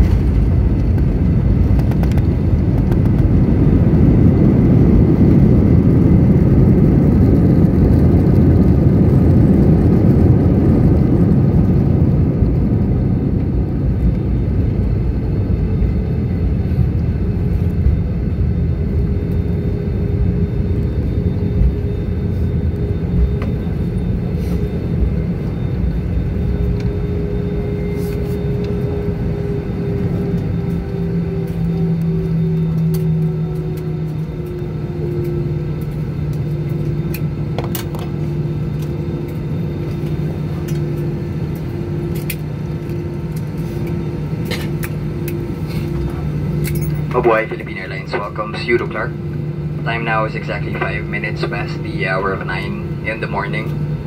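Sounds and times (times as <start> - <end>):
rumble of jet engines and wheels: 0.0 - 54.0
steady hum: 0.0 - 54.0.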